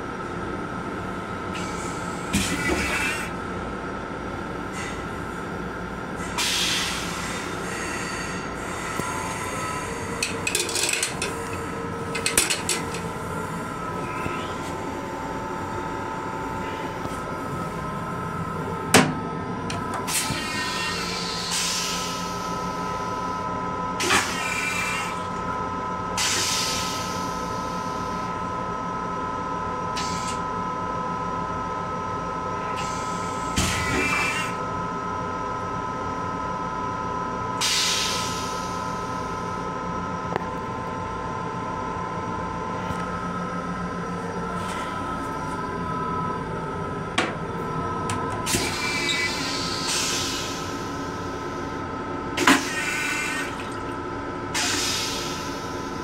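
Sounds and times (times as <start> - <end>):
railcar hum: 0.0 - 56.0.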